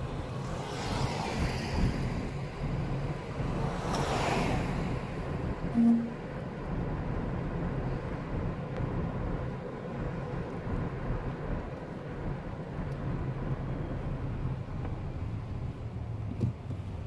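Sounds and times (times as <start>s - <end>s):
car interior road and engine noise: 0.0s - 17.0s.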